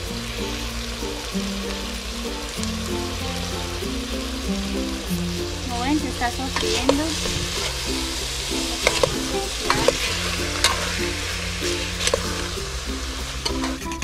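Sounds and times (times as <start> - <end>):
food sizzling in a metal pot: 0.0 - 14.0.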